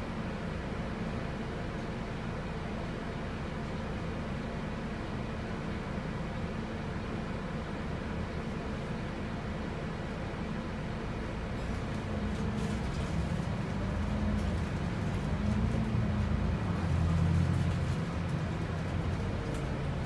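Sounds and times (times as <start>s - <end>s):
bus engine heard from inside: 0.0s - 20.0s.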